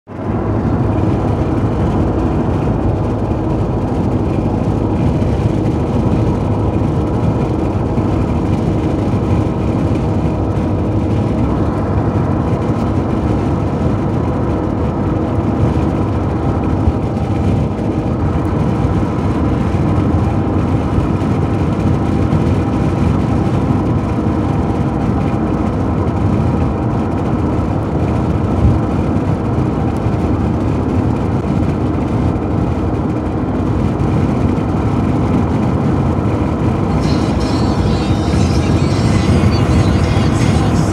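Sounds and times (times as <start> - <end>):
car road noise from inside cabin: 0.1 - 40.9.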